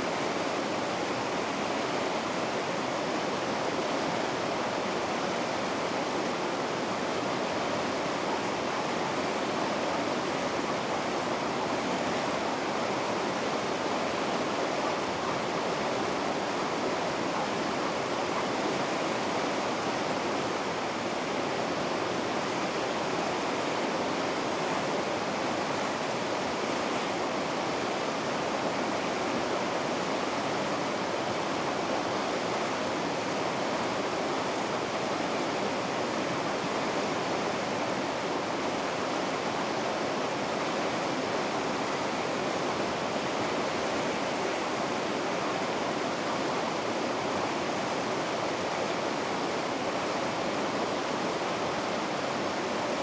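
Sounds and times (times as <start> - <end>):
water rushing over rapids: 0.0 - 53.0.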